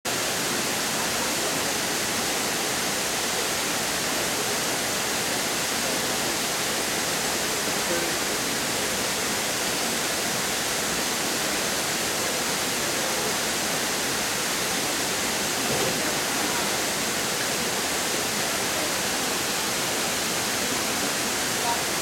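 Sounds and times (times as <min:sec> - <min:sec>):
waterfall rushing over rocks: 0:00.1 - 0:22.0.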